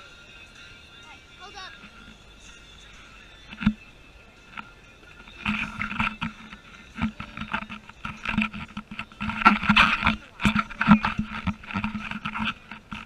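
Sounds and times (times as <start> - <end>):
boat engine hum: 0.0 - 13.0.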